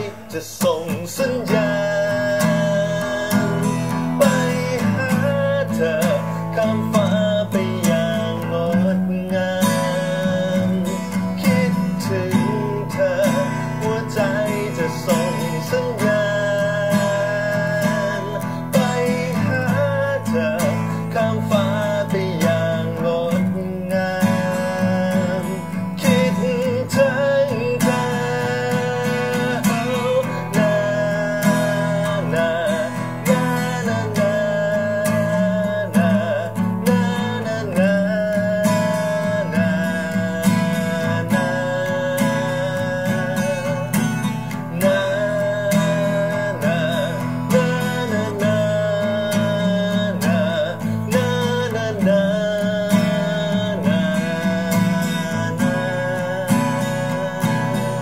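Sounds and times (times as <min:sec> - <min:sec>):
person singing: 0:00.0 - 0:58.0
strummed acoustic guitar: 0:00.0 - 0:58.0.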